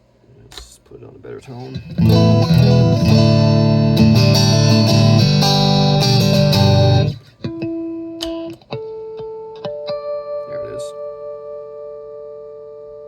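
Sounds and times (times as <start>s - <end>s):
electric guitar through amplifier: 1.6s - 13.0s.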